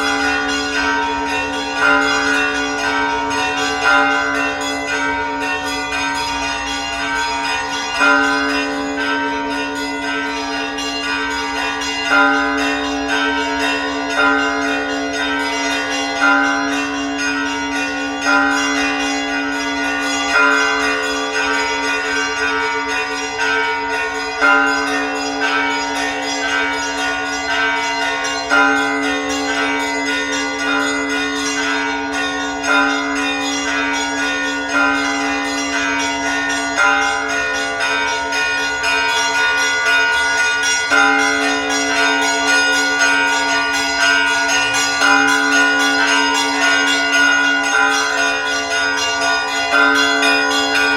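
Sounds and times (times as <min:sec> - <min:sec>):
heavy church bell striking: 0:00.0 - 0:50.9
smaller bells ringing: 0:00.0 - 0:50.9.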